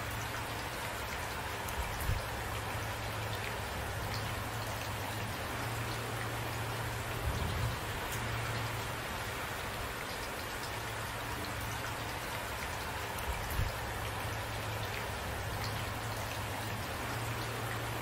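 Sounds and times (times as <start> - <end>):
rain drops pattering: 0.0 - 18.0.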